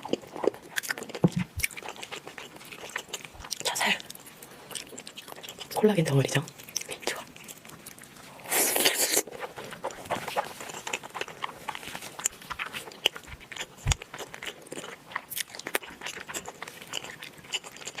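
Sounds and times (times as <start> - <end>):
person chewing and crunching food: 0.0 - 18.0.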